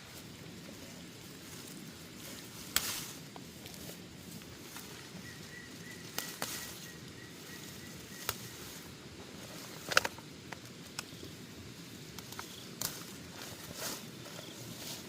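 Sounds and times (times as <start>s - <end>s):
low outdoor background: 0.0s - 15.0s.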